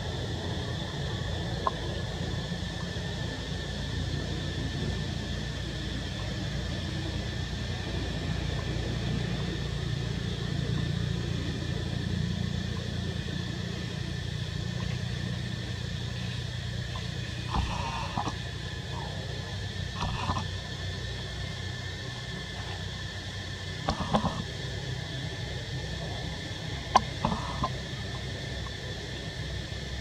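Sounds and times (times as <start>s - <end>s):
constant hiss: 0.0s - 30.0s
low background rumble: 0.0s - 30.0s.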